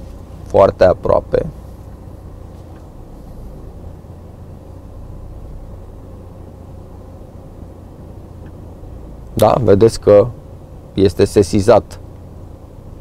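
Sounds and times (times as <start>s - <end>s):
diesel van engine rumbling: 0.0s - 13.0s.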